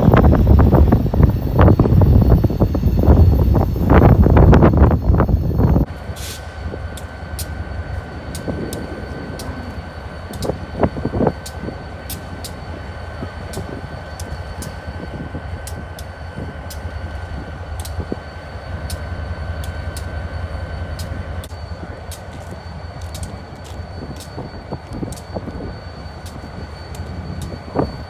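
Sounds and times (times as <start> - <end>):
constant engine whine: 0.0 - 28.0
diesel locomotive idling: 0.0 - 28.0.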